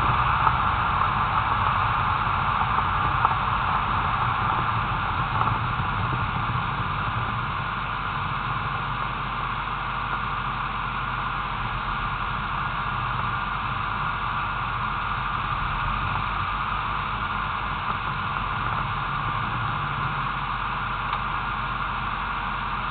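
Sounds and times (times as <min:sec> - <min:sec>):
car engine idling: 0:00.0 - 0:22.9
steady hiss: 0:00.0 - 0:22.9.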